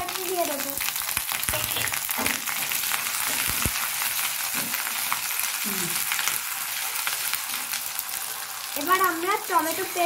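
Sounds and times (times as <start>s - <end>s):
spices sizzling in oil: 0.0s - 10.0s.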